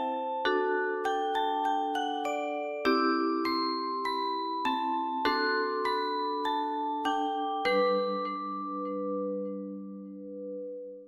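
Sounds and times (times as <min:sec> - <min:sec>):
bell-like melody: 0:00.0 - 0:11.0.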